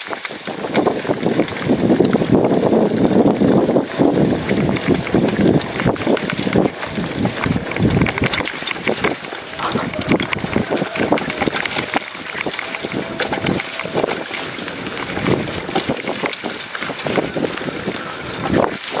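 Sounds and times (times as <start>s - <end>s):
bike rattling: 0.0s - 19.0s
tyres rolling on dirt: 0.0s - 19.0s
wind buffeting microphone: 0.0s - 19.0s.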